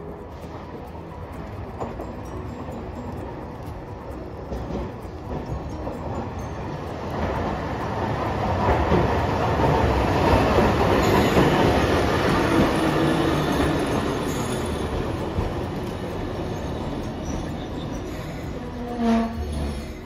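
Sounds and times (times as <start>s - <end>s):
streetcar wheels rumbling on rails: 0.0s - 20.0s.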